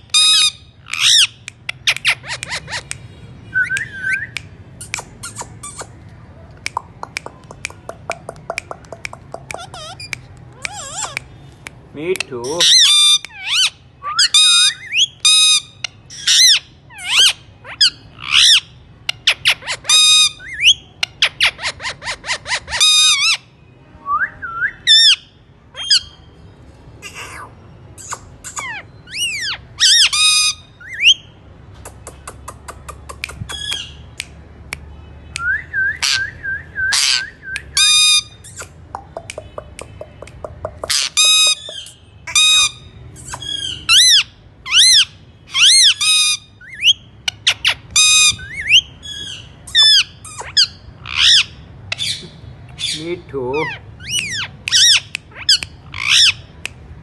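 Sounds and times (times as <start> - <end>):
parakeet squawking: 0.0 - 3.0, 4.0 - 6.0, 7.0 - 11.6, 12.2 - 23.5, 24.9 - 26.3, 27.0 - 31.3, 31.9 - 34.2, 36.0 - 36.3, 36.9 - 56.6.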